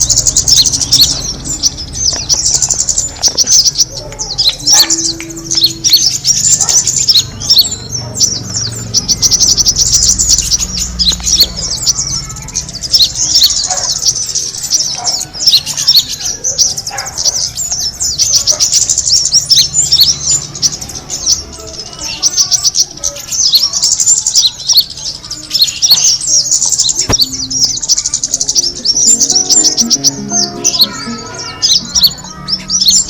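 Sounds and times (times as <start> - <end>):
bird lure chirps and trills: 0.0 - 33.0.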